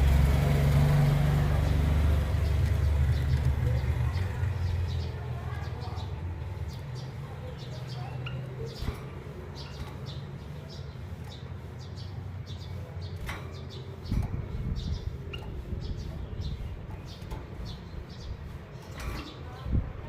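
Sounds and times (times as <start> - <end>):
finches chirping: 2.4 - 20.0.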